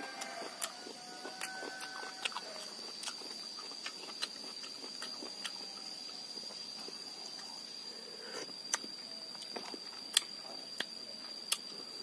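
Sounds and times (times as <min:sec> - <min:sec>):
chewing crunches and clicks: 0:00.1 - 0:06.6, 0:08.4 - 0:11.8.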